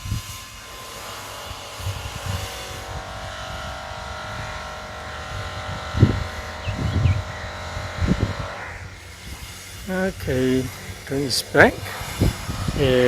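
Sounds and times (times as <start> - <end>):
drone propellers whirring: 0.0 - 13.0
wind buffeting microphone: 0.0 - 13.0.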